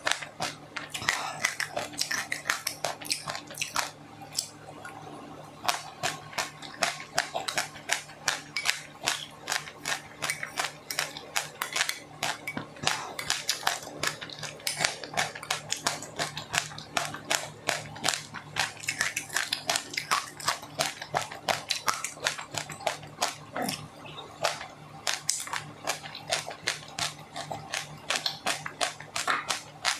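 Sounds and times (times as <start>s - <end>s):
chewing crunchy food: 0.0s - 29.9s.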